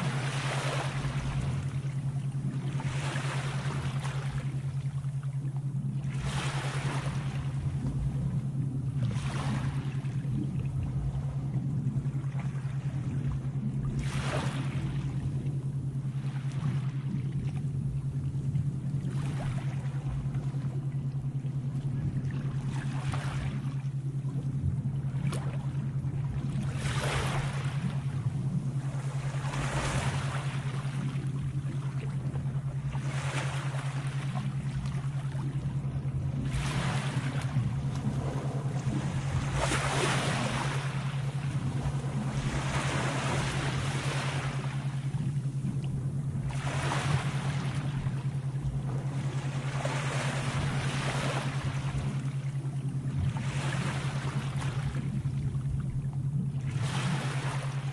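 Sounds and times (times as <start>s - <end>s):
sea waves washing in: 0.0s - 57.9s
steady low hum: 0.0s - 57.9s.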